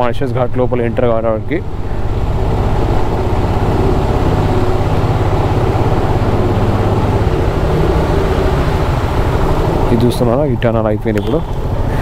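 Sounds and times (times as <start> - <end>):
road and wind noise: 0.0 - 12.0
motorcycle engine running: 1.7 - 12.0.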